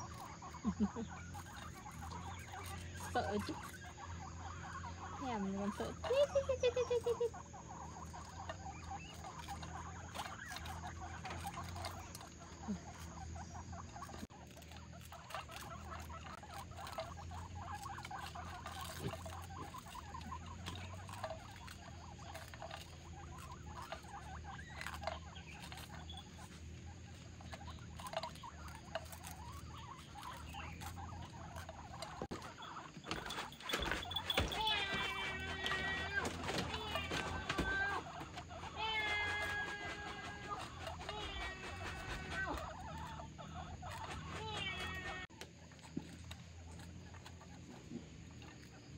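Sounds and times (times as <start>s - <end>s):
guinea pigs chewing: 0.0s - 48.9s.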